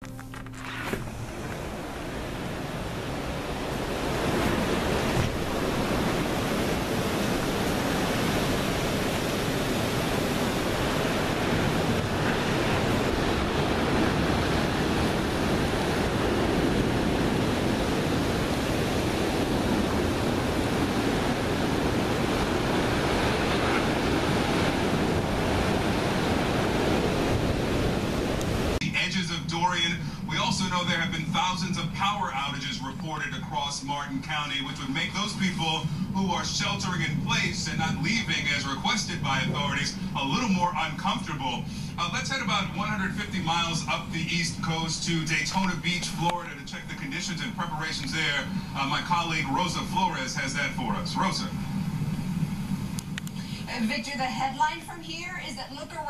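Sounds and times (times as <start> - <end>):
waves breaking: 0.0 - 56.0
gusting wind: 0.8 - 56.0
wind buffeting microphone: 1.0 - 46.4, 47.8 - 56.0.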